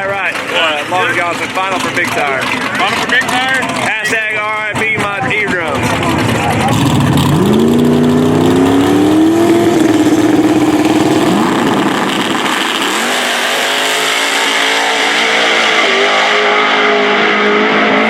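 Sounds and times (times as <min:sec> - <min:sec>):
drag race car engines at full throttle: 0:00.0 - 0:18.0.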